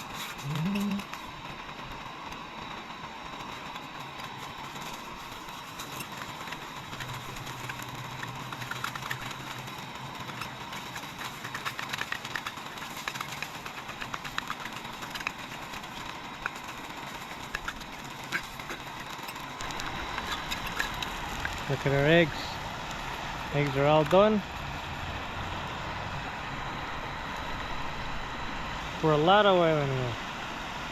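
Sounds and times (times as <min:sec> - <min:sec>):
oil crackling and spattering: 0:00.0 - 0:25.5.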